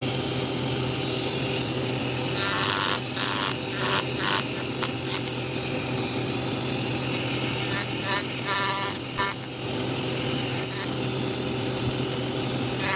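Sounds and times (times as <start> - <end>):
rotary tool grinding wood: 1.2 - 12.9.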